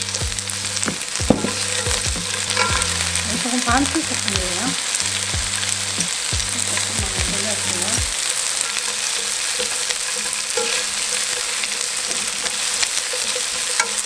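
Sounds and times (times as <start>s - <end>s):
chopsticks tapping and scraping pan: 0.0s - 14.0s
onions sizzling in oil: 0.0s - 14.0s.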